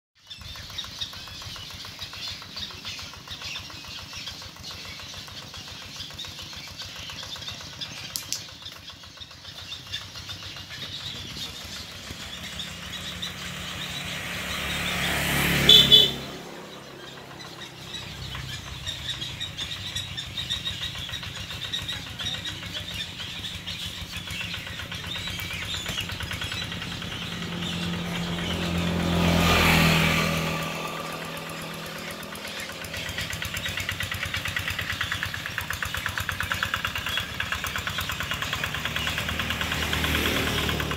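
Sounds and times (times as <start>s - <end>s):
motor vehicle passing: 0.2s - 40.9s
low engine hum: 0.3s - 40.9s.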